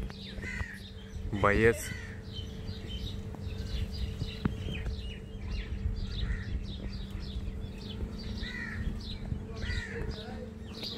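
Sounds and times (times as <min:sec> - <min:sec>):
low wind rumble: 0:00.0 - 0:10.9
small birds chirping: 0:00.0 - 0:10.9
steady hum: 0:00.0 - 0:10.9.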